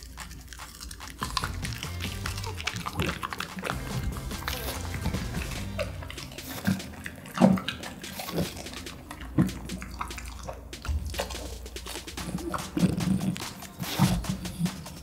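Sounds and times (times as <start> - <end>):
dog chewing wetly: 0.0 - 15.0.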